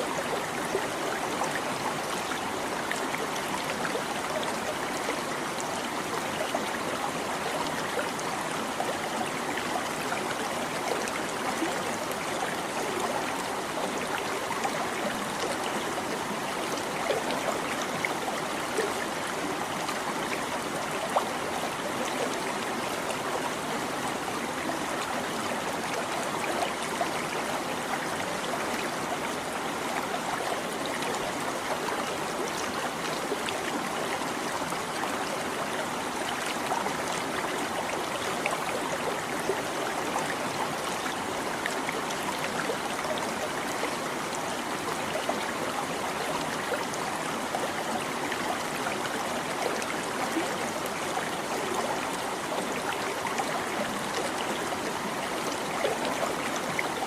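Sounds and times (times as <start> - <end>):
babbling stream: 0.0 - 57.0.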